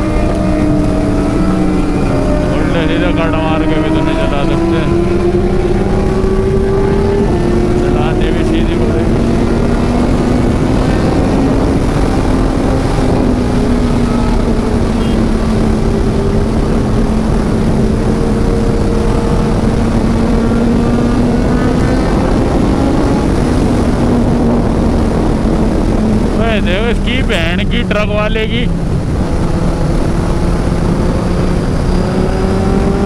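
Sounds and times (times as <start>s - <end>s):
loud wind noise: 0.0s - 33.0s
motorcycle engine cruising: 0.0s - 33.0s.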